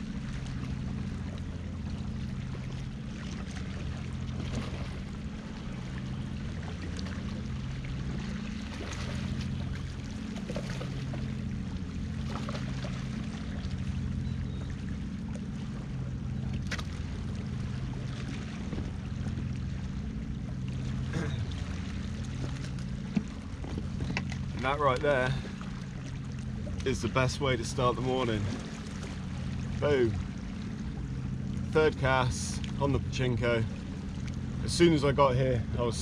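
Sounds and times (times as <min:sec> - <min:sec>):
water lapping against rocks: 0:02.4 - 0:14.0, 0:16.5 - 0:36.0.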